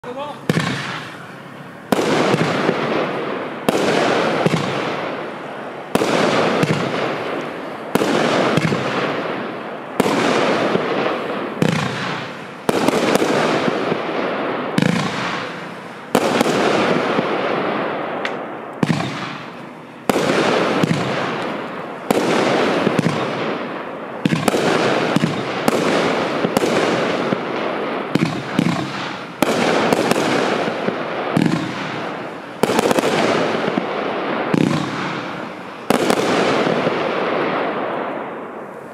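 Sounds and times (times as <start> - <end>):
fireworks cake bangs: 0.1 - 38.2.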